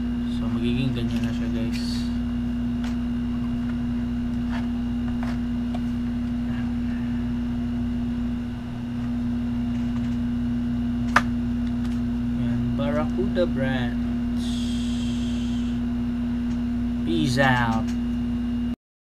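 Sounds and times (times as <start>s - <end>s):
low electrical hum: 0.0s - 18.8s.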